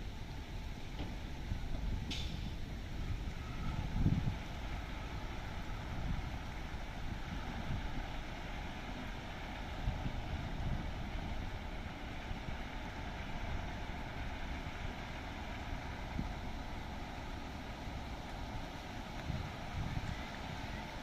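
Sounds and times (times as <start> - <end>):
boat diesel engine droning: 0.0 - 21.0
wind buffeting microphone: 1.4 - 21.0.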